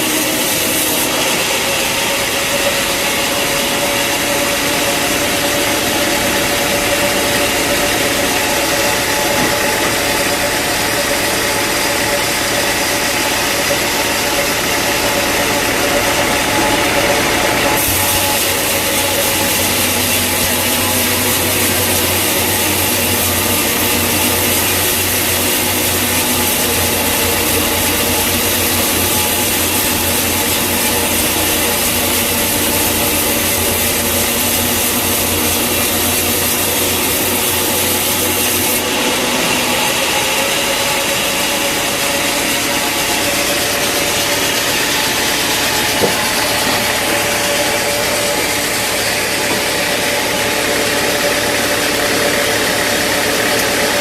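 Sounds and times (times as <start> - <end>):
engine-like machinery drone: 0.0 - 54.0
sawing noise: 0.0 - 54.0.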